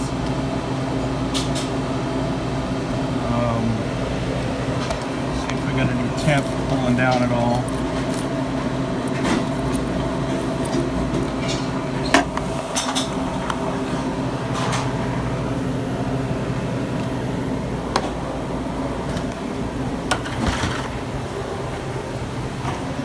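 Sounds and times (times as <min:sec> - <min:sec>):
refrigerator humming: 0:00.0 - 0:23.0.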